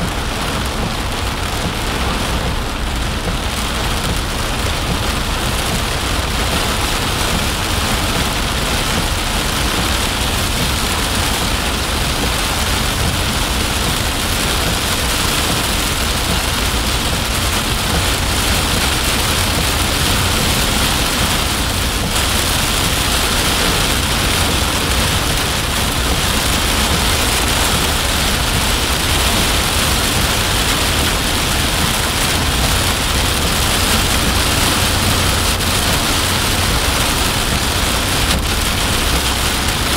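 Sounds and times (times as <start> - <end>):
heavy rain on car roof: 0.0 - 39.9
road and tyre noise: 0.0 - 39.9.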